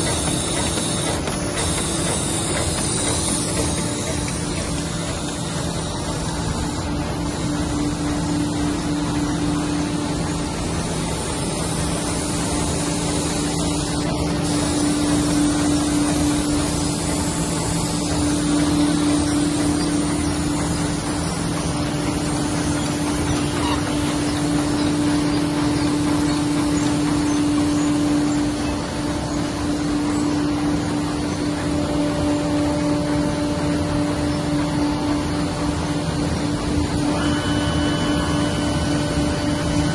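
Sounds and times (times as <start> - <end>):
book-sewing machine humming: 0.0 - 39.9.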